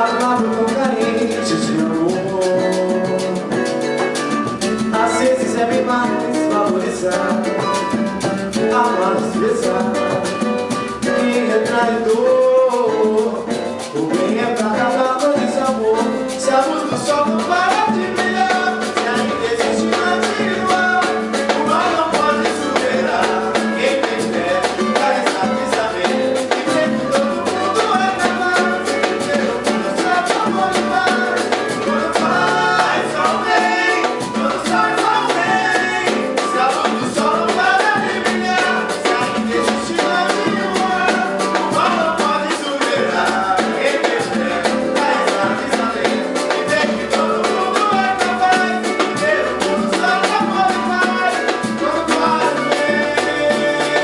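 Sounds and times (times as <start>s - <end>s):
latin band music: 0.0s - 54.0s.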